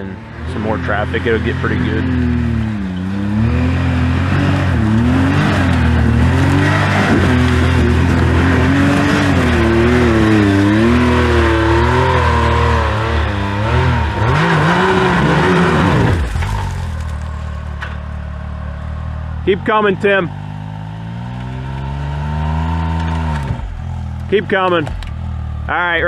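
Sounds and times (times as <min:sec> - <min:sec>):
utility vehicle engine revving: 0:00.0 - 0:26.0.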